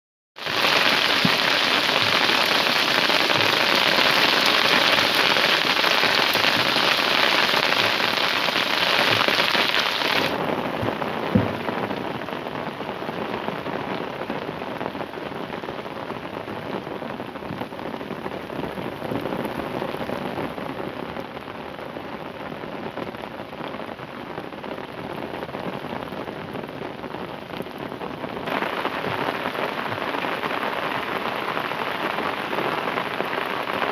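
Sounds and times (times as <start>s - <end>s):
rain falling: 0.4s - 33.9s.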